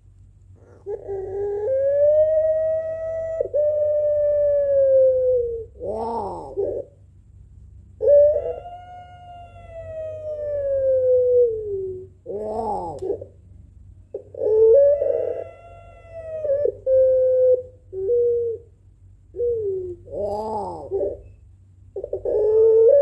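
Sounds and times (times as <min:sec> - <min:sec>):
dove cooing: 0:00.6 - 0:07.0, 0:08.0 - 0:13.4, 0:14.1 - 0:23.0.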